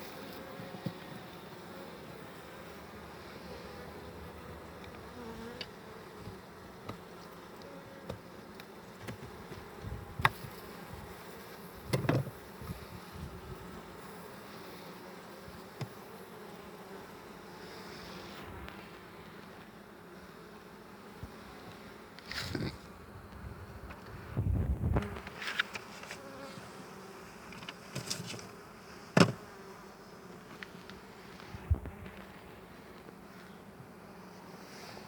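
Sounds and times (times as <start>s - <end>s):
honeybees buzzing: 0.0s - 35.0s.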